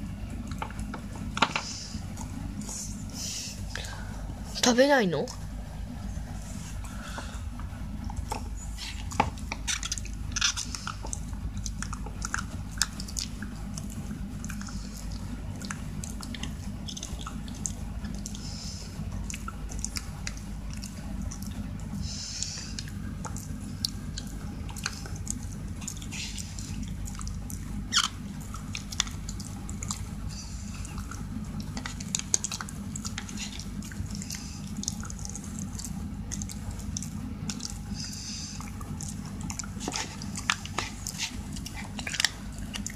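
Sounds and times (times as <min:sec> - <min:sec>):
steady low hum: 0:00.0 - 0:42.9
dog gnawing chew stick: 0:07.5 - 0:42.9.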